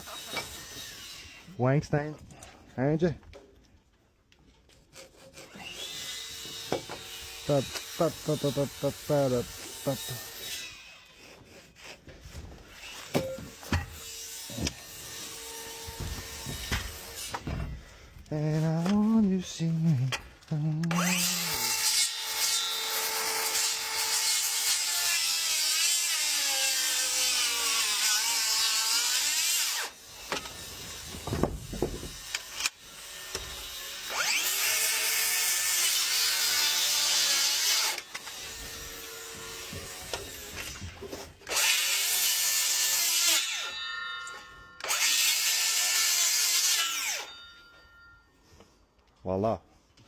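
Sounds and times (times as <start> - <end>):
power tool cutting timber: 0.0 - 1.6, 4.8 - 47.6.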